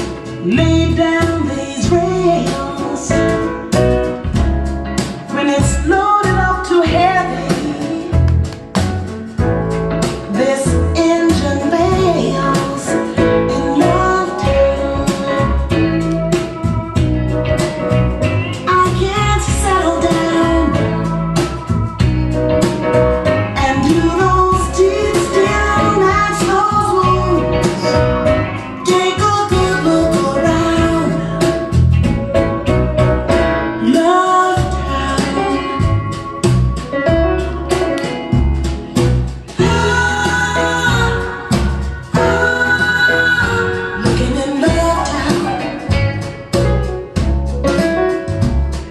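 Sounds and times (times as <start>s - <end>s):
song with singing and beat: 0.0s - 48.9s.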